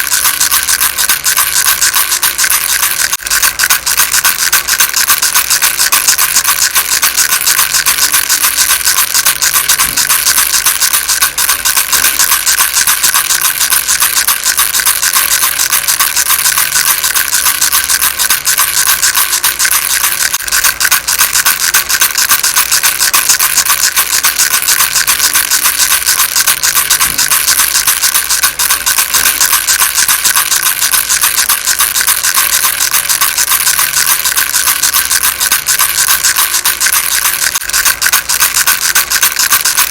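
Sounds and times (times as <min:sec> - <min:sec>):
rattle beads clattering: 0:00.0 - 0:39.9.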